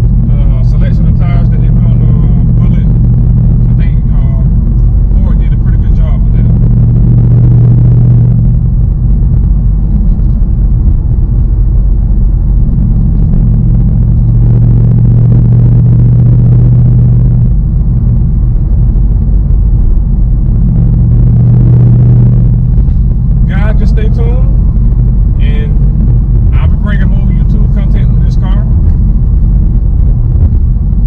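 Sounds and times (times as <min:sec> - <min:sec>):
car engine drone: 0:00.0 - 0:31.0.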